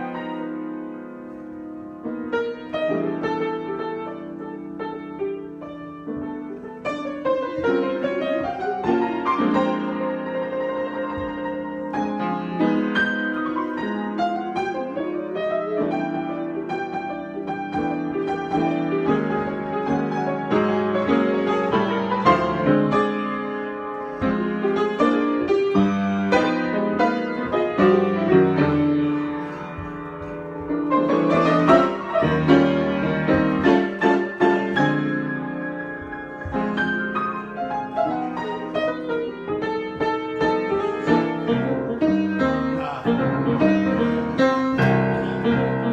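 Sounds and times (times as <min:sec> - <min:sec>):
improvised piano music: 0:00.0 - 0:45.9.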